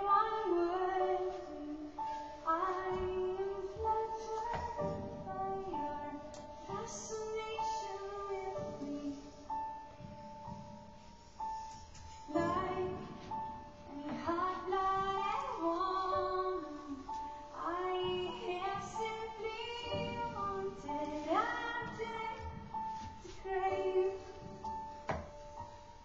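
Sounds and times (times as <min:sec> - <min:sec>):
woman singing slow melody: 0:00.0 - 0:09.6, 0:12.3 - 0:24.8.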